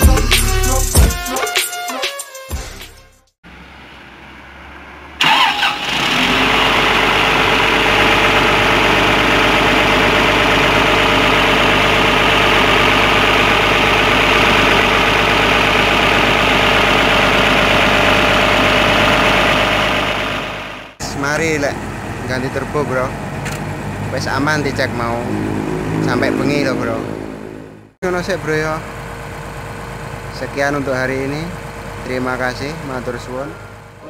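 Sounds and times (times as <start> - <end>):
diesel engine starting and running: 0.0 - 1.2, 2.6 - 34.0.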